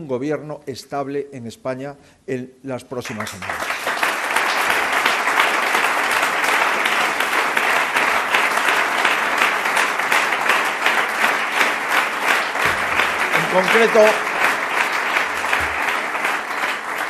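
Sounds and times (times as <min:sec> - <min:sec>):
audience applauding: 0:03.0 - 0:17.0.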